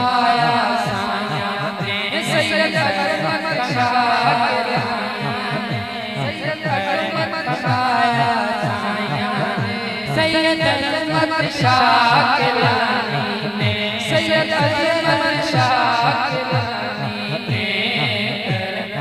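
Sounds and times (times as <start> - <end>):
man singing through microphone: 0.0 - 19.0.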